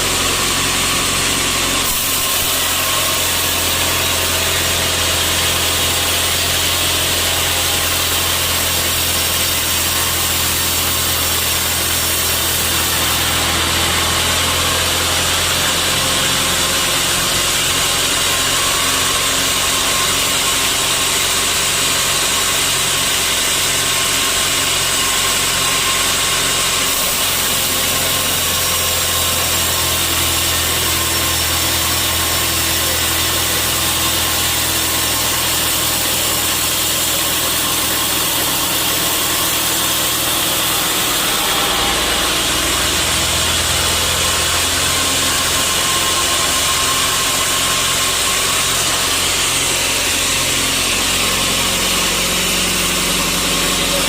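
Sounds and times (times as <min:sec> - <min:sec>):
sawmill saw running: 0:00.0 - 0:54.0.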